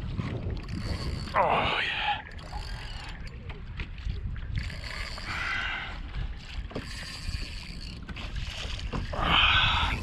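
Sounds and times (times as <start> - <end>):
water lapping against kayak hull: 0.0 - 10.0
wind on microphone: 0.0 - 10.0.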